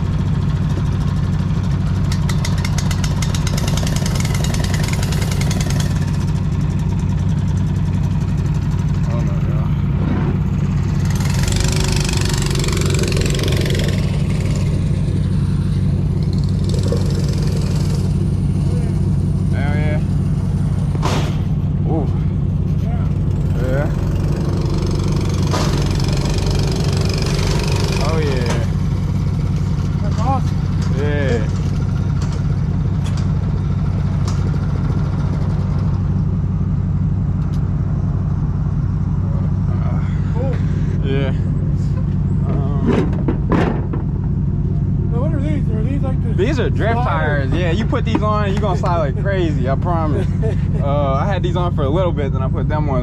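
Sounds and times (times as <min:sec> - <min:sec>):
small engine idling: 0:00.0 - 0:53.0.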